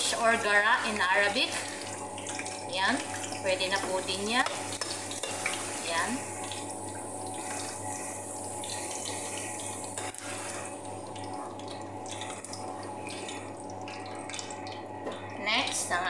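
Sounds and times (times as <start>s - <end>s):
oil sizzling in a pan: 0.0s - 16.0s
steady low hum: 0.0s - 16.0s.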